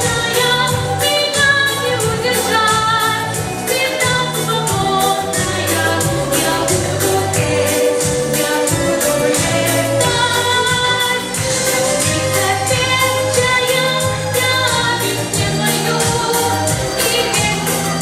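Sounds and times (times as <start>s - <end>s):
girl singing: 0.0s - 11.4s, 12.0s - 18.0s
pop backing track: 0.0s - 18.0s.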